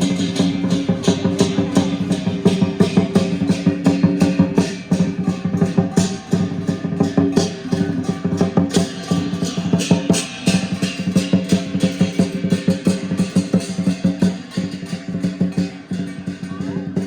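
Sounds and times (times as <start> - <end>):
big drum beating rapidly: 0.0 - 17.0
cymbals clashing: 0.0 - 17.0.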